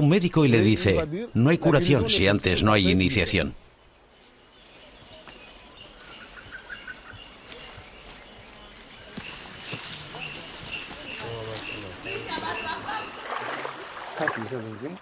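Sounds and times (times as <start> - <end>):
scattered insect chirps: 1.0 - 13.9.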